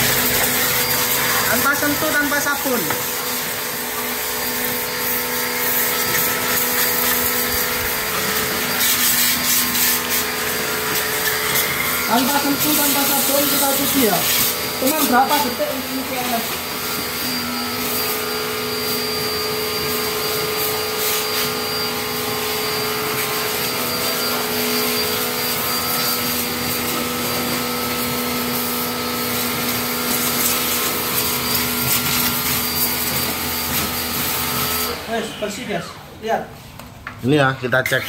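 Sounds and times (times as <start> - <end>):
water jet hissing: 0.0 - 35.8
pressure washer motor humming: 0.0 - 36.1.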